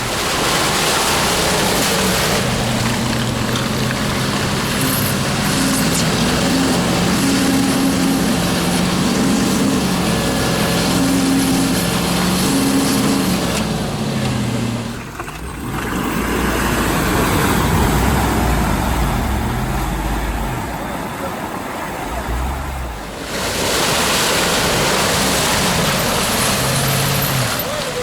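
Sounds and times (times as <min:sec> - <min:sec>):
vehicle engine revving: 0:00.0 - 0:28.0.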